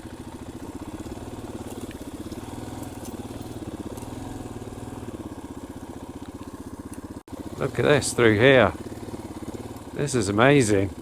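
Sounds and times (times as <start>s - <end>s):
dirt bike engine at low revs: 0.0s - 11.0s.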